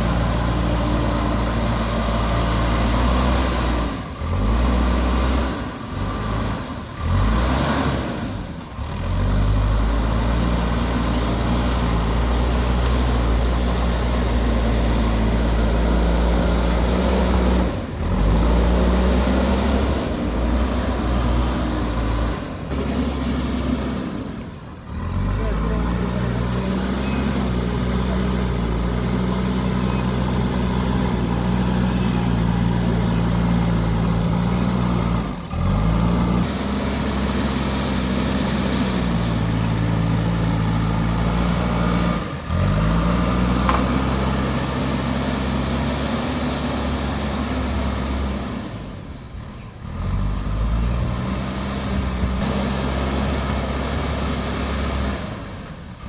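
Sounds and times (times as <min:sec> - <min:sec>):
diesel engine working: 0:00.0 - 0:56.0.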